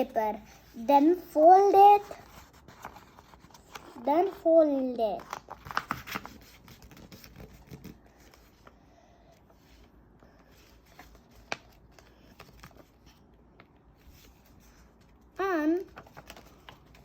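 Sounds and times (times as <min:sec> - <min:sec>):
paper rustling and creasing: 0:00.0 - 0:08.8, 0:09.4 - 0:17.0.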